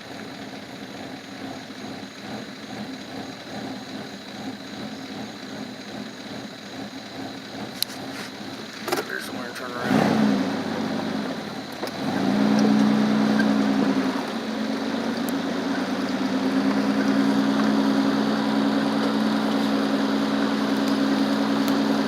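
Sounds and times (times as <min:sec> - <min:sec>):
car engine running: 0:00.0 - 0:22.0
road noise: 0:00.0 - 0:22.0.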